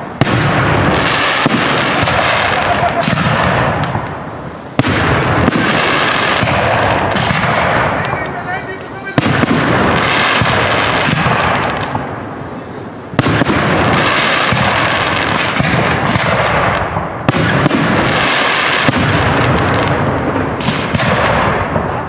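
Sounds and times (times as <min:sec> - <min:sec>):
firework shells bursting with bangs: 0:00.0 - 0:12.3, 0:13.1 - 0:22.0
echoing crackling noise: 0:00.0 - 0:22.0.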